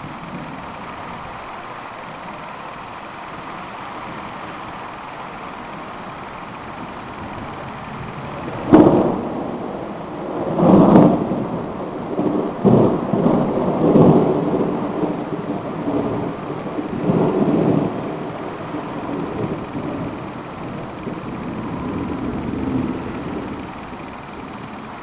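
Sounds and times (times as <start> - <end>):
steady rain: 0.0 - 25.0
thunder crack and rumbles: 0.0 - 25.0.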